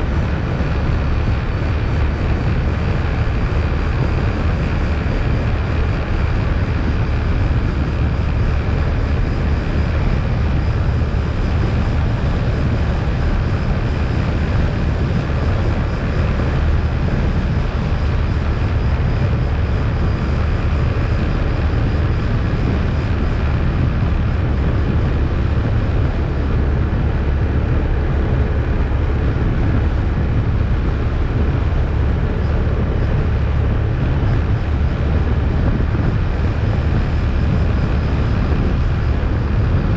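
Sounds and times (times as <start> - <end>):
quad bike engine droning: 0.0 - 39.9.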